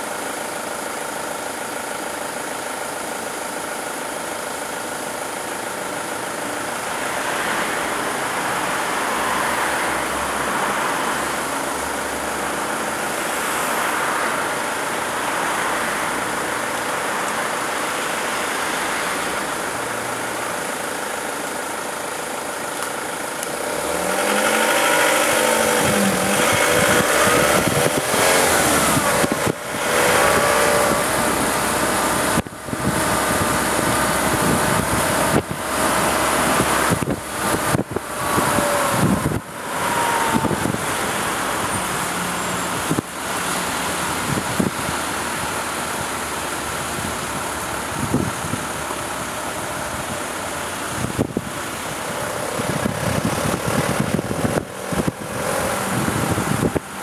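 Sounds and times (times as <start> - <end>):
car engine: 0.0 - 57.0
road noise: 0.0 - 57.0.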